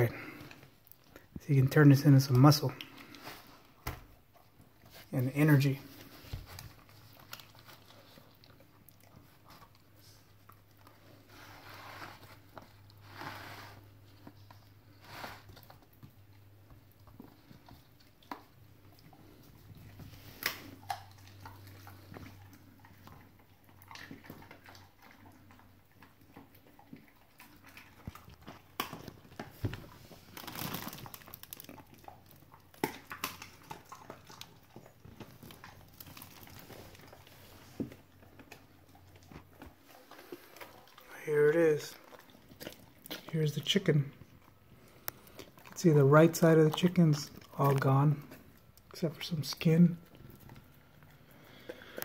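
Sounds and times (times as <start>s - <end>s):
dog chewing and crunching: 0.0s - 52.0s.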